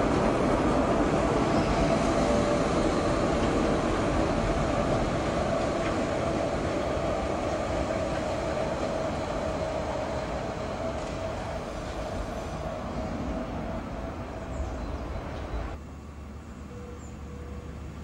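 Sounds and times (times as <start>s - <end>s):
model tram rolling on track: 0.0s - 18.0s
tram motor humming: 0.0s - 18.0s.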